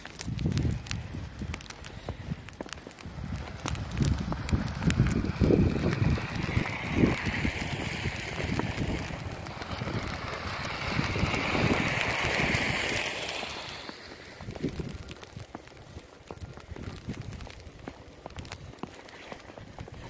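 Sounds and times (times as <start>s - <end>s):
tyres hissing on snowy road: 0.0s - 20.0s
wind rumbling on microphone: 0.0s - 20.0s.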